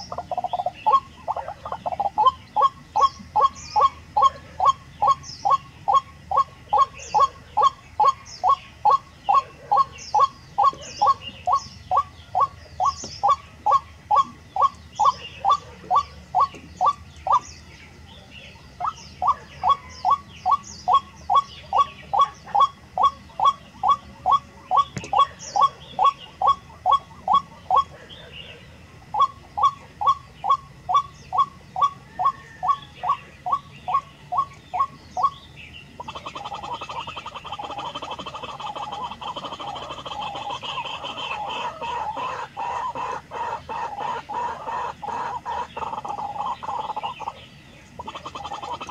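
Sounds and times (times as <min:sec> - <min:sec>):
waterhen repeated call: 0:00.0 - 0:17.4, 0:18.6 - 0:27.9, 0:29.1 - 0:35.4, 0:36.0 - 0:48.9
small birds chirping: 0:00.0 - 0:48.9.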